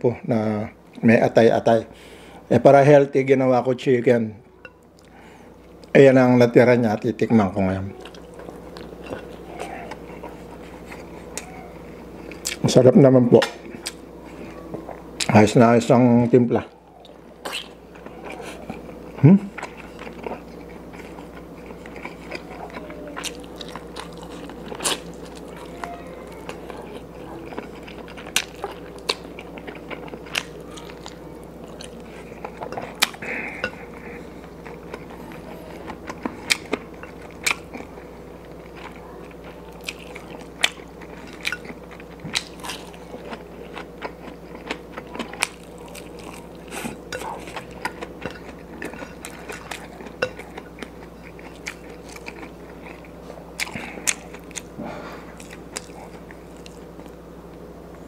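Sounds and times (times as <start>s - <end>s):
steady low hum: 0.0s - 58.0s
man chewing and crunching food: 4.6s - 58.0s.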